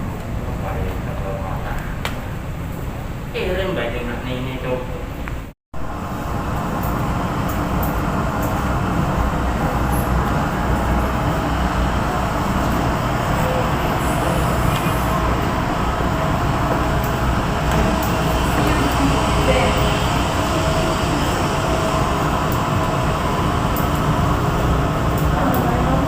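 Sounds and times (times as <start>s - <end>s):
airliner engines running: 0.0s - 26.0s.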